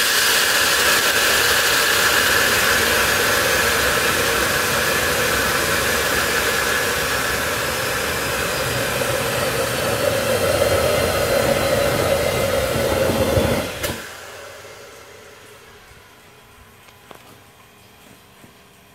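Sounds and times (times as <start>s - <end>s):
hiss: 0.0s - 15.8s
turbojet engine rushing and whining: 0.0s - 16.2s.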